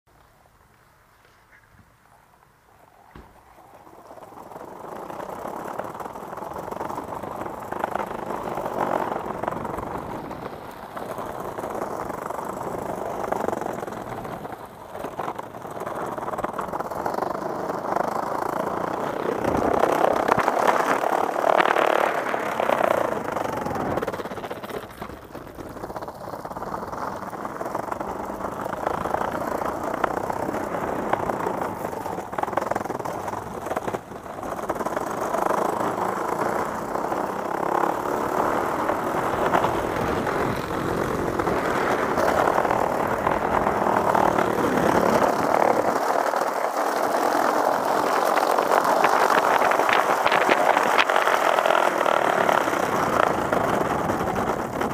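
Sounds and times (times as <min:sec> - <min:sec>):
longboard wheels rolling on bricks: 0:00.1 - 0:54.9.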